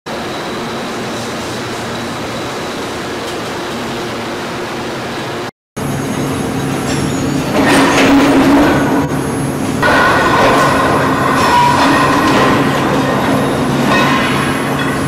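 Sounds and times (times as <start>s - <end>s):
industrial machine hum: 0.1s - 15.0s.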